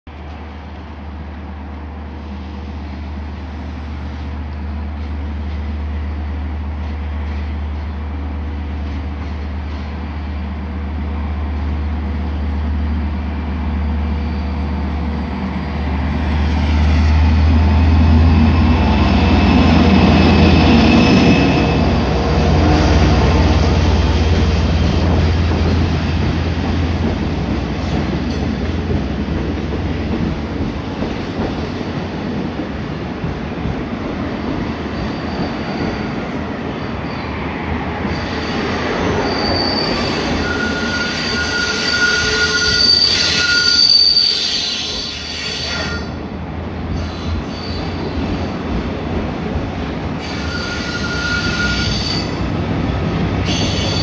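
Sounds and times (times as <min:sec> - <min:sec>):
diesel locomotive engine drone: 0:00.1 - 0:54.0
train coaches rushing past: 0:00.1 - 0:54.0.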